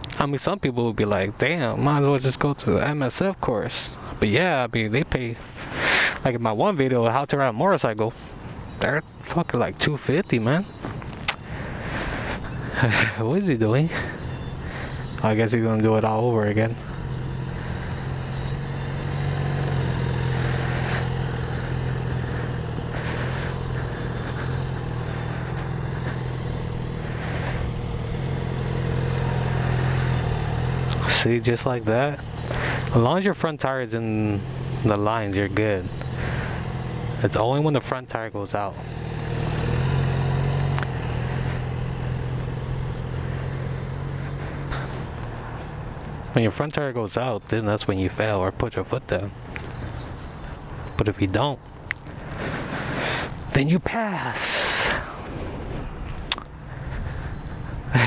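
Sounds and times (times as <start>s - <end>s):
motorcycle engine idling: 5.2s - 53.6s, 54.2s - 58.0s.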